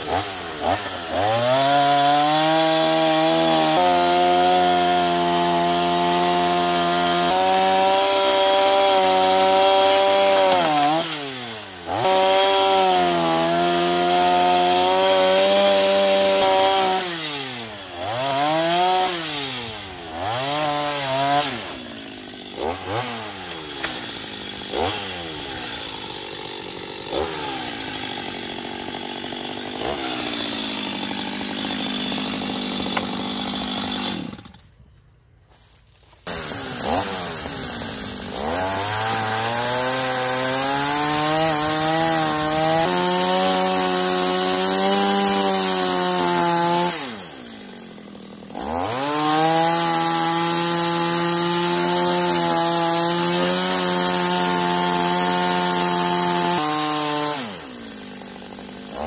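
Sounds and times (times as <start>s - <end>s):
chainsaw cutting through branch: 0.0s - 34.9s, 35.5s - 59.0s
chainsaw idling: 0.0s - 59.0s.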